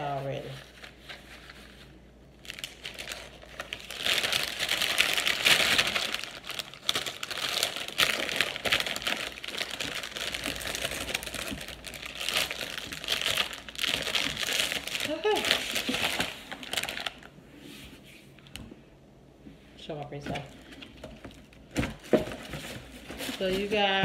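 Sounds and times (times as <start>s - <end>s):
plastic packaging crinkling: 0.0s - 17.4s, 20.3s - 24.0s.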